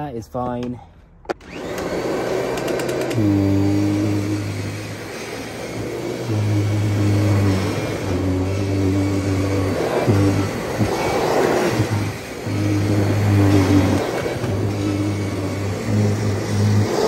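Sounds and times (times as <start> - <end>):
vacuum cleaner motor running: 1.4 - 17.0.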